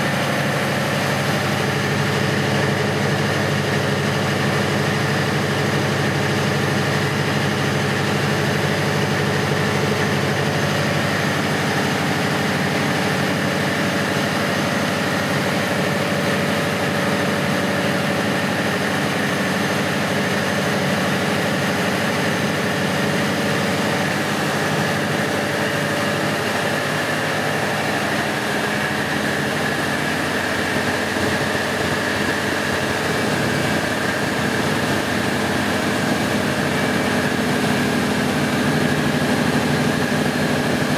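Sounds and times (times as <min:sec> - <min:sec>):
diesel generator engine running: 0:00.0 - 0:40.9.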